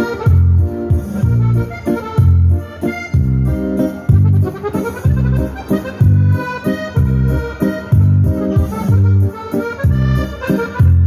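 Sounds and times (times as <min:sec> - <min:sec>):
accordion dance music: 0:00.0 - 0:11.0.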